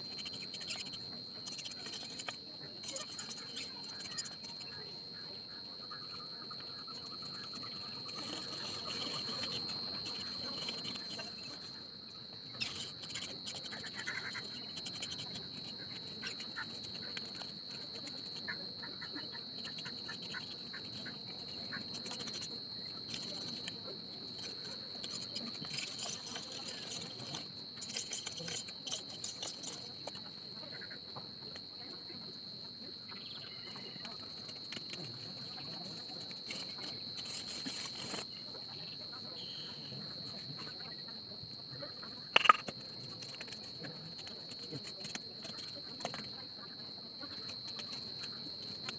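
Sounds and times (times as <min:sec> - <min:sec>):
high-pitched insect buzz: 0:00.0 - 0:48.9.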